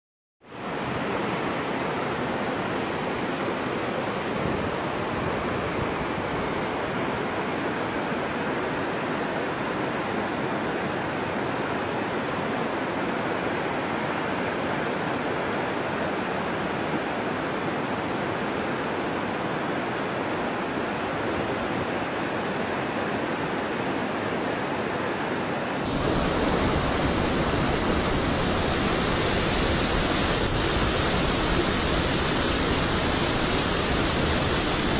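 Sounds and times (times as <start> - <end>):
waterfall rushing: 0.6 - 34.9.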